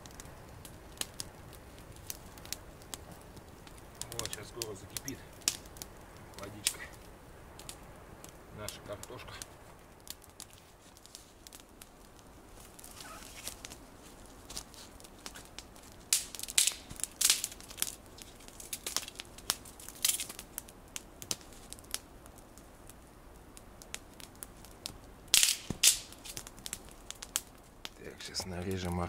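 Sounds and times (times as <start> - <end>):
dry twigs cracking: 0.0 - 29.0.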